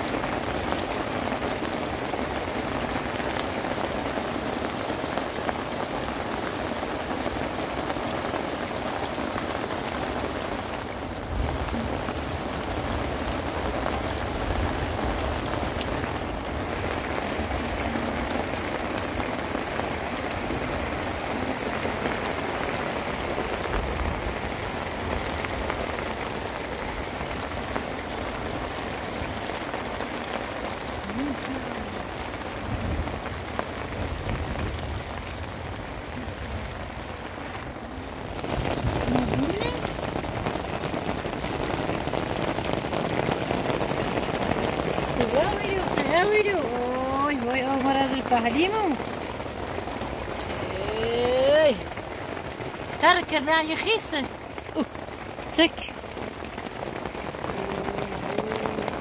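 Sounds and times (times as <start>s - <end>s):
rain on stony ground: 0.0s - 59.0s.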